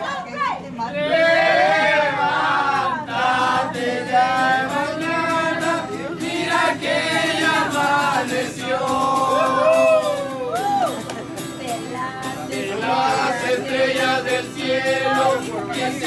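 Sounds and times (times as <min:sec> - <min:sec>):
group of people singing: 0:00.8 - 0:10.5, 0:11.9 - 0:16.0
strummed acoustic guitar: 0:01.3 - 0:16.0.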